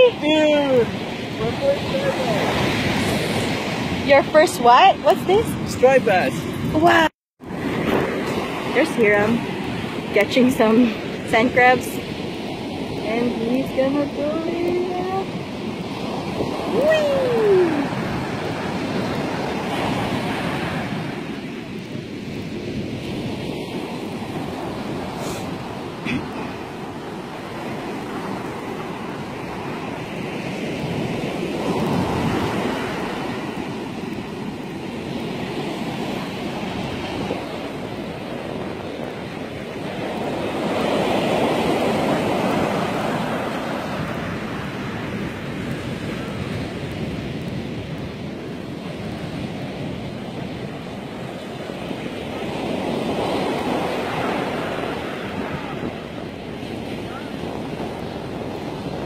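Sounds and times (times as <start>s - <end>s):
ocean surf on beach: 0.0s - 59.0s
wave breaking: 0.0s - 59.0s
wind on microphone: 0.0s - 59.0s.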